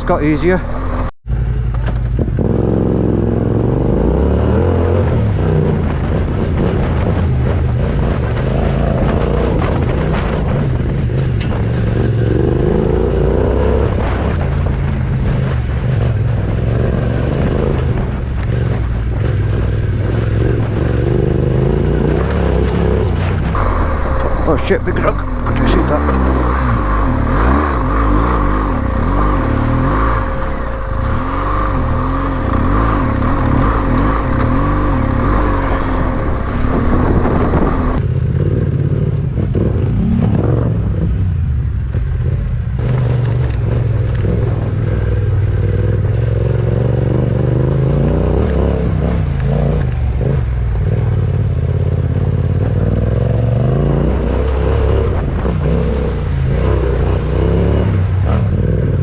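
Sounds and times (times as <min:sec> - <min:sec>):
motorbike engine revving: 0:00.0 - 0:38.7, 0:42.8 - 0:59.0.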